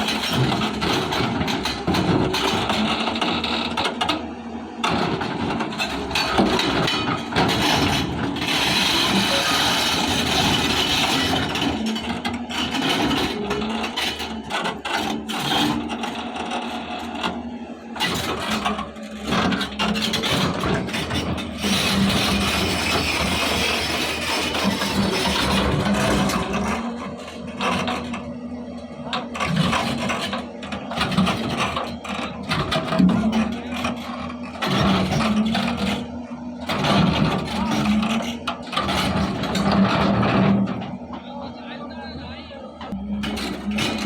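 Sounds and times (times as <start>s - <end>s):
excavator diesel engine working: 0.0s - 44.0s.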